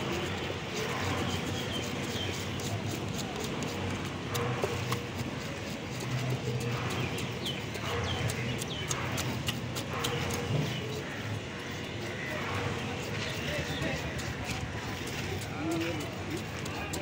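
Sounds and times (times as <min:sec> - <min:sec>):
knife scraping fish scales: 0:00.0 - 0:17.0.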